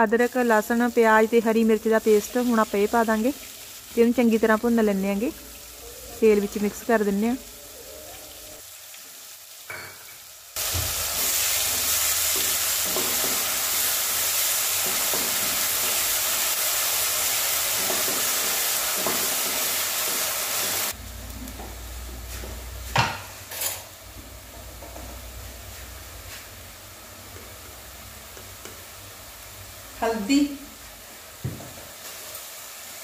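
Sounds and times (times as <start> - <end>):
paste sizzling in hot oil: 0.0 - 24.0, 25.2 - 33.0.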